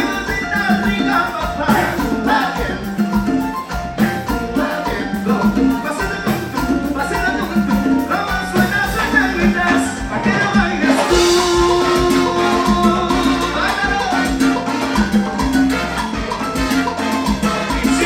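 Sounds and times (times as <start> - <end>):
latin dance orchestra playing: 0.0 - 18.0.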